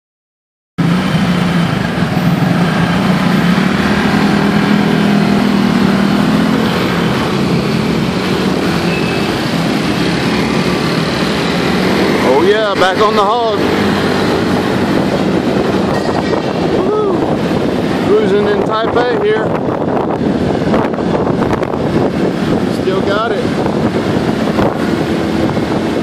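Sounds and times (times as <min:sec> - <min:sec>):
heavy city traffic: 0:00.8 - 0:26.0
scooter engine hum: 0:00.8 - 0:26.0
wind noise: 0:00.8 - 0:26.0.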